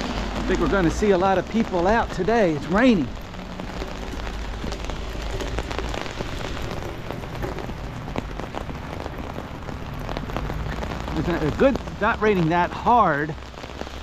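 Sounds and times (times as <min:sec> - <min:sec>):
rain pattering on umbrella: 0:00.0 - 0:14.0.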